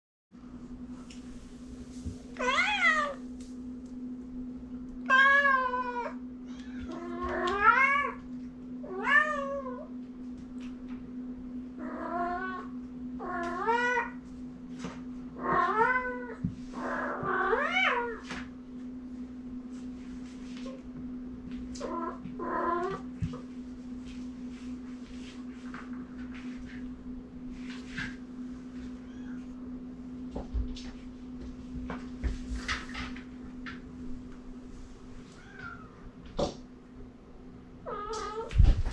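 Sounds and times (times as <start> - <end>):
steady low hum: 0.4 - 38.9.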